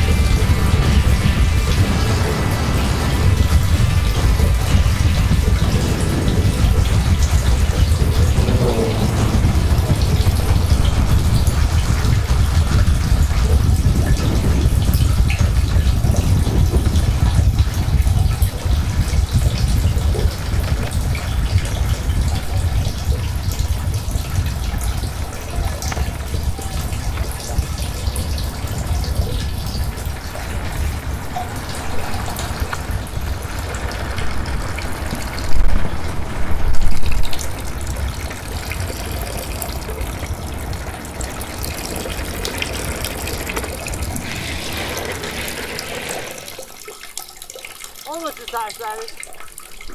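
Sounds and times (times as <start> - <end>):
wind on microphone: 0.0 - 46.6
wheels rolling on asphalt: 0.0 - 49.1.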